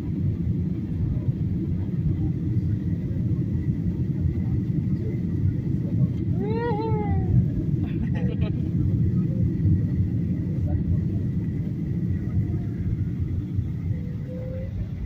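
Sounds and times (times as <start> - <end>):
airliner cabin rumble: 0.0 - 15.0
faint steady whine: 0.0 - 15.0.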